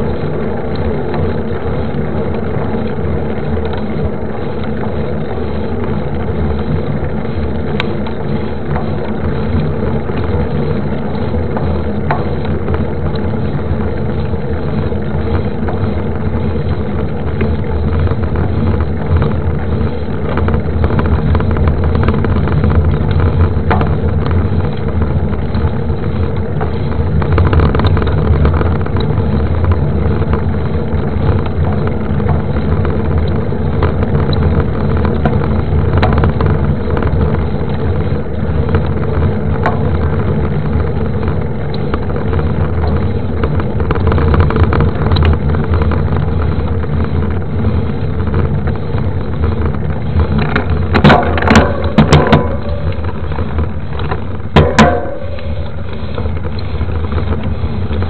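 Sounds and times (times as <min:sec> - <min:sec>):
bike knocks and rattles: 0:00.0 - 0:58.0
bike tyres rolling on cobblestones: 0:00.0 - 0:58.0
wind rumble on microphone: 0:00.0 - 0:58.0.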